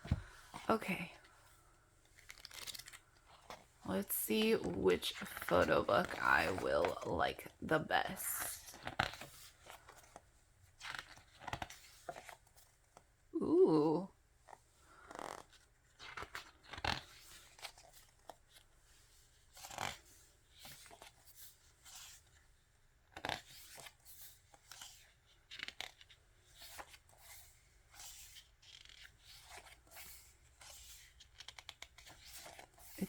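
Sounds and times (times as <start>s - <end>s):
photo book pages turning: 2.0s - 13.1s, 14.4s - 33.0s.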